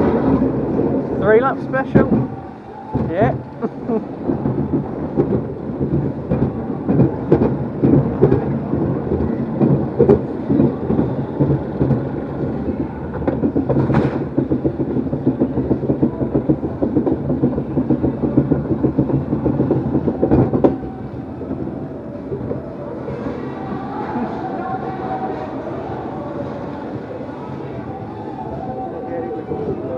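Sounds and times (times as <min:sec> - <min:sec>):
ride cars rattling along track: 0:00.0 - 0:29.9.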